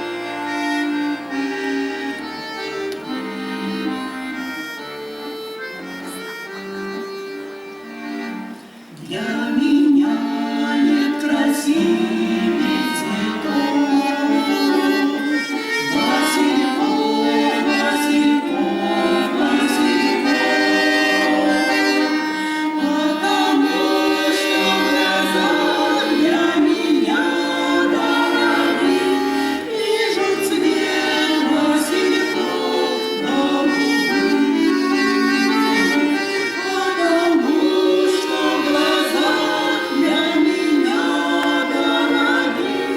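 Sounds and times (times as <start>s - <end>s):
accordion music: 0.0s - 42.9s.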